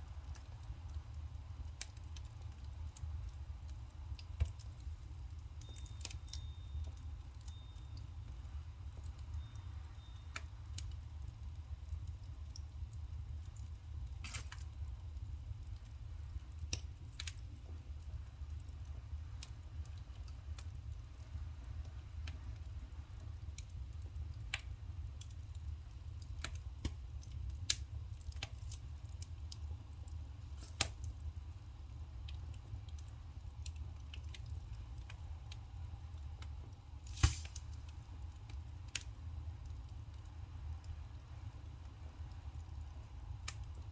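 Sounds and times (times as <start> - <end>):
firewood crackling and popping: 0.0 - 43.9.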